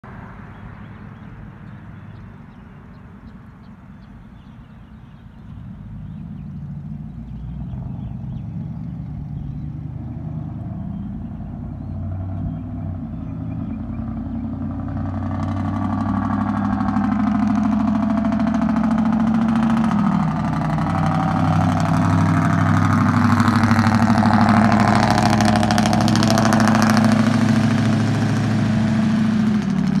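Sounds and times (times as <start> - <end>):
truck engine deep exhaust: 0.0 - 30.0.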